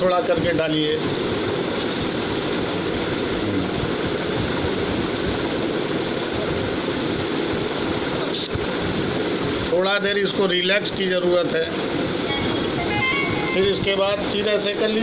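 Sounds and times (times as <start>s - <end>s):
fan rushing: 0.0s - 15.0s.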